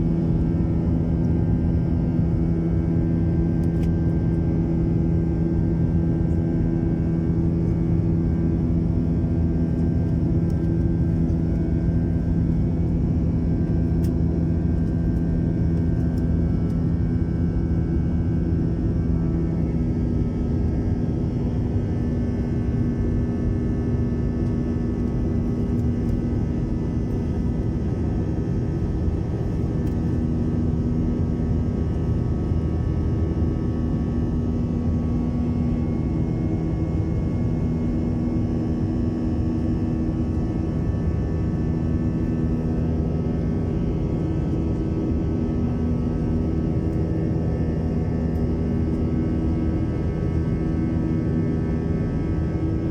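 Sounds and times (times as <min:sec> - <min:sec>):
jet engines droning: 0:00.0 - 0:52.9.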